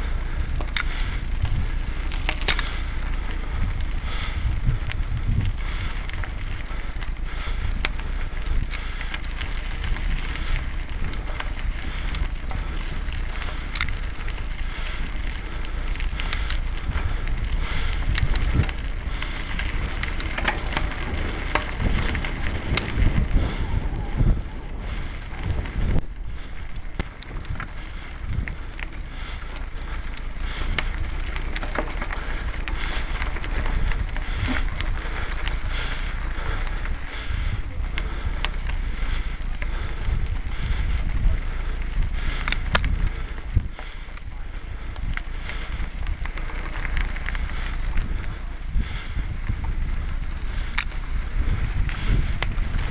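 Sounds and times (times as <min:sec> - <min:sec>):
bike clicks and rattles: 0:00.0 - 0:52.9
wind rumble on microphone: 0:00.0 - 0:52.9.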